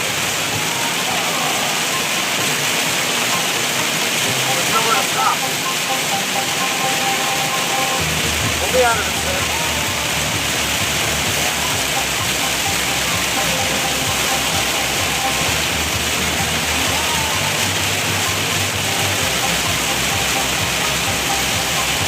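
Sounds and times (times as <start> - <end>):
heavy rain on car roof: 0.0 - 22.0.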